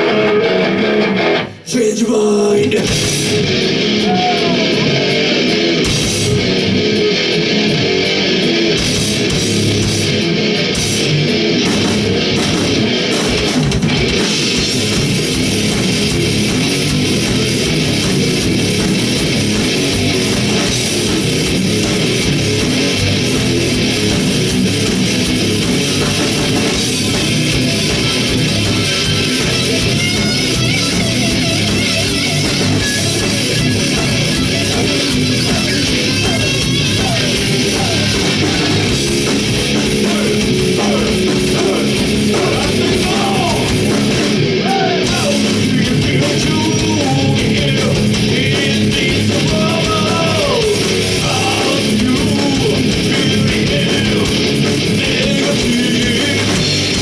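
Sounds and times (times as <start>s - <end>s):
distorted electric guitar: 0.0s - 57.0s
drum kit: 2.6s - 57.0s.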